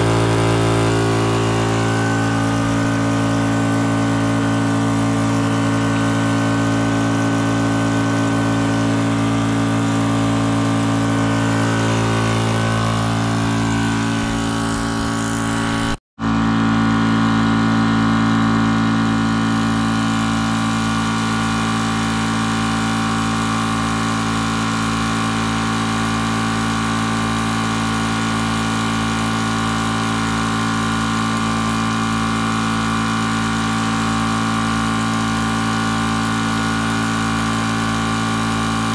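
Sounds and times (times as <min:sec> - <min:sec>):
air compressor humming: 0:00.0 - 0:38.9.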